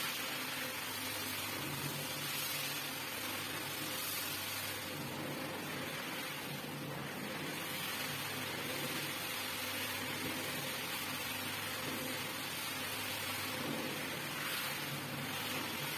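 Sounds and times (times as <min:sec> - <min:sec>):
brush scrubbing wet rug: 0:00.0 - 0:15.9
floor scrubber motor humming: 0:00.0 - 0:15.9.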